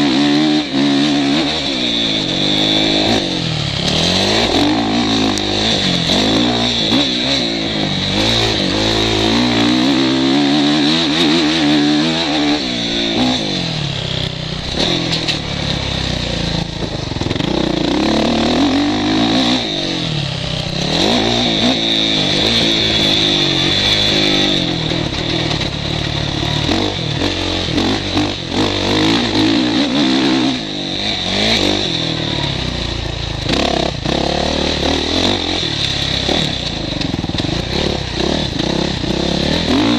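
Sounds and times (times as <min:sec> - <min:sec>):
bike rattling: 0:00.0 - 0:39.9
motocross bike engine revving: 0:00.0 - 0:39.9.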